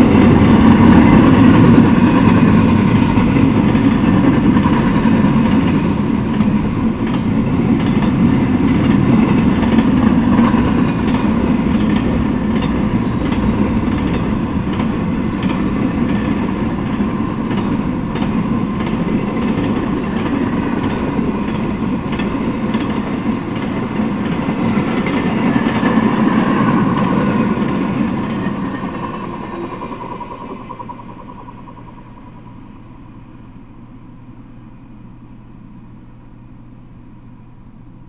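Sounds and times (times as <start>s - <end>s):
wheels clicking over rail joints: 0.0s - 32.5s
freight train wheels rumbling: 0.0s - 38.0s.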